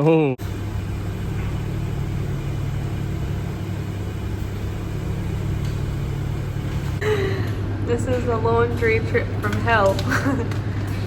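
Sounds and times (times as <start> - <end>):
constant hum: 0.4 - 11.0
low mechanical rumble: 0.4 - 11.0.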